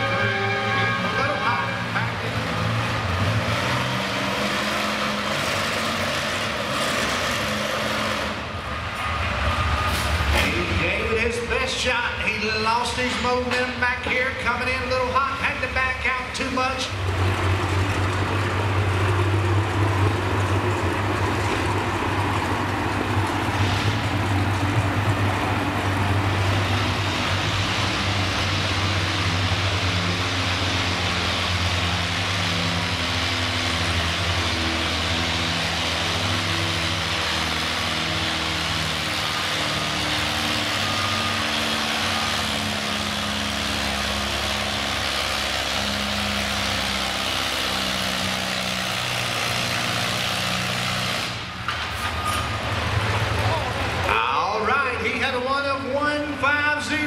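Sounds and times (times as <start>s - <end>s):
tractor engine under heavy load: 0.0s - 57.0s.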